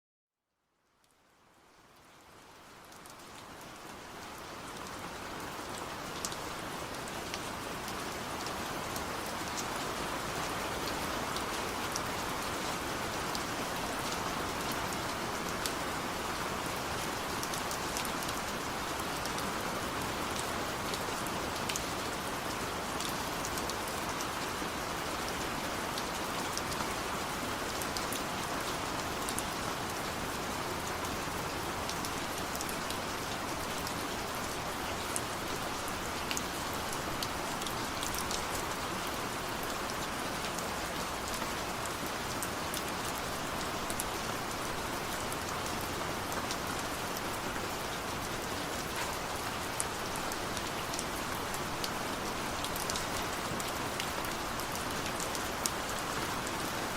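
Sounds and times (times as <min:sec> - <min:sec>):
heavy rain falling: 0:01.9 - 0:56.9.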